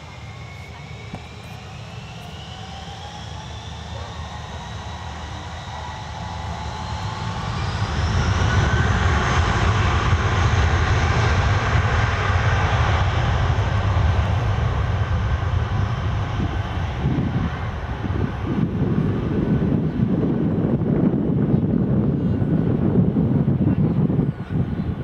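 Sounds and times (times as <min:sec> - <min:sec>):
jet engines spooling up: 0:00.0 - 0:21.8.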